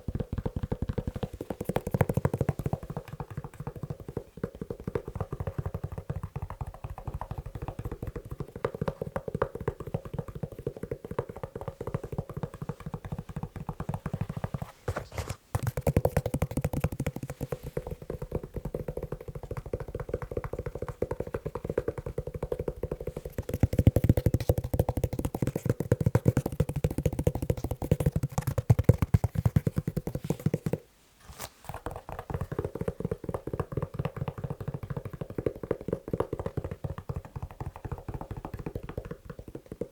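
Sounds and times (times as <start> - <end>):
rapid tapping on leather shoe: 0.0 - 30.8, 31.7 - 39.9.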